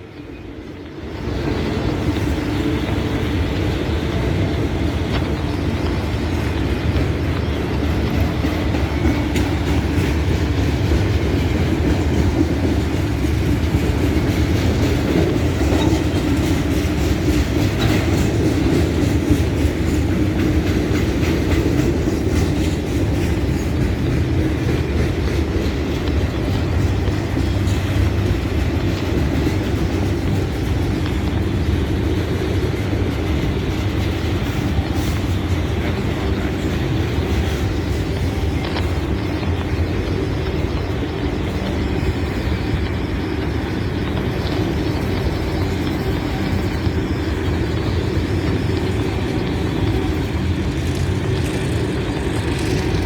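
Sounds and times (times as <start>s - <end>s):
freight train rumbling past: 0.0s - 53.0s
train wheels clicking over rail joints: 0.0s - 53.0s.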